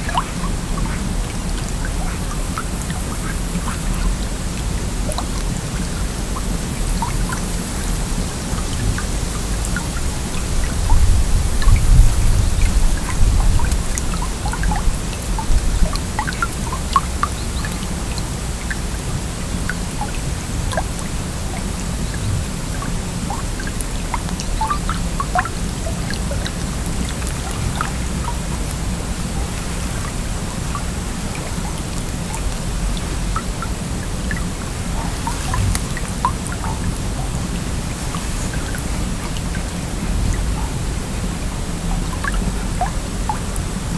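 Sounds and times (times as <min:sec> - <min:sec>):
small splashes and drips: 0:00.0 - 0:43.9
stream water rushing: 0:00.0 - 0:43.9.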